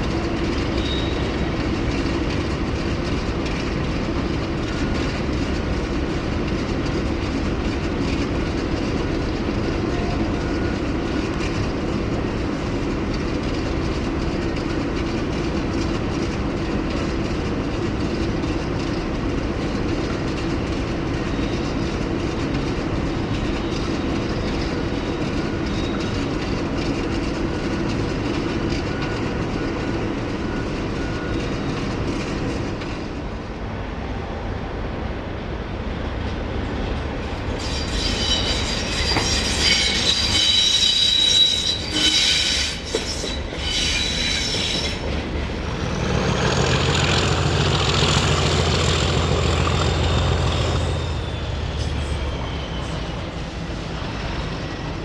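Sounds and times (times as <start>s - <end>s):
wheels squealing on rails: 0.0s - 32.8s, 36.8s - 55.0s
train rumbling on rails: 0.0s - 55.0s.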